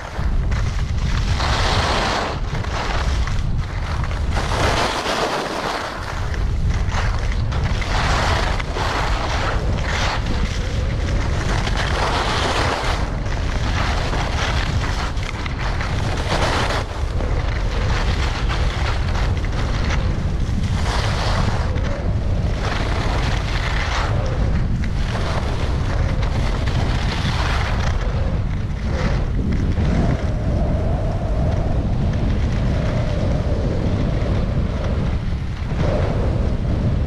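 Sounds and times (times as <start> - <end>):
skis scraping on hard snow: 0.0 - 30.4
wind buffeting microphone: 0.0 - 37.0.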